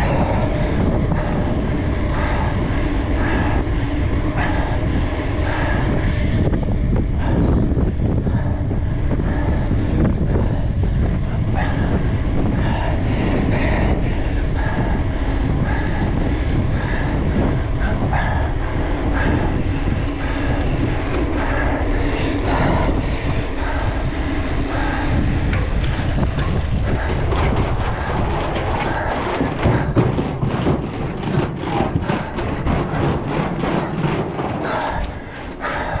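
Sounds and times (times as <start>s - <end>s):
bike rattling over bumps: 0.0s - 36.0s
tyres rumbling on rough ground: 0.0s - 36.0s
wind on microphone: 0.0s - 36.0s.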